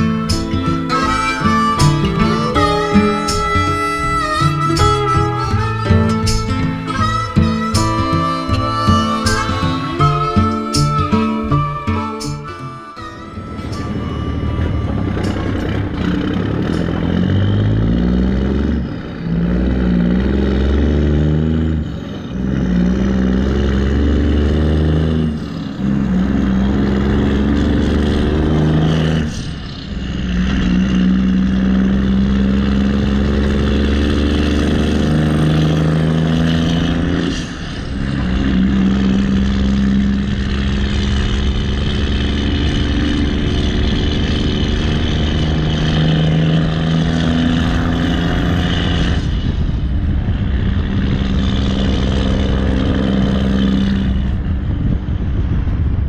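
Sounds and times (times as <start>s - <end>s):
backhoe diesel engine: 0.0s - 56.0s.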